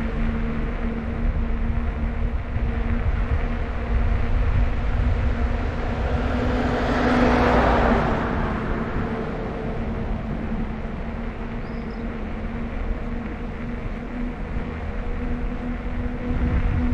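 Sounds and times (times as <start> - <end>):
bicycle riding rumble: 0.0 - 16.9
rushing noise: 0.9 - 16.9.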